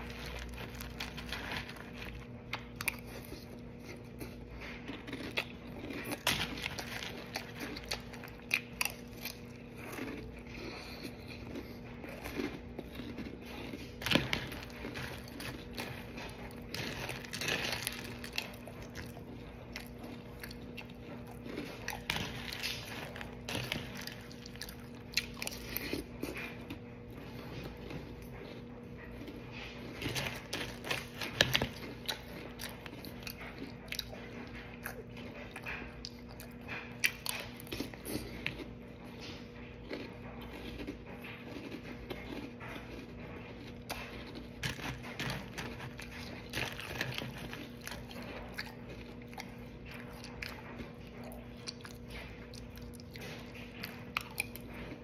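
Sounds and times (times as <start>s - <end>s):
cereal crunching while chewing: 0.0s - 55.0s
faint steady hum: 0.0s - 55.0s.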